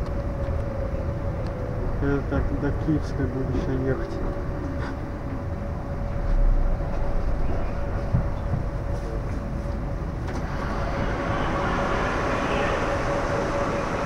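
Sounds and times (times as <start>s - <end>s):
low rumble: 0.0s - 14.0s
train car humming: 0.0s - 14.0s.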